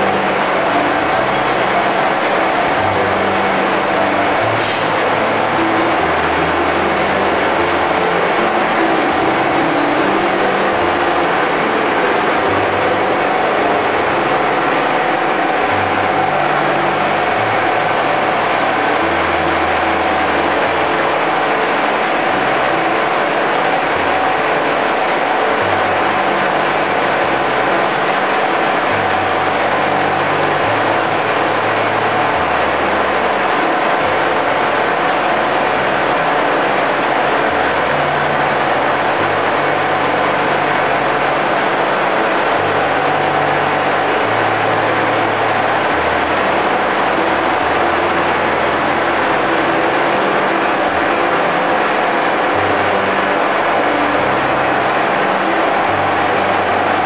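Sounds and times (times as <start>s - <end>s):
boat engines humming: 0.0s - 57.0s.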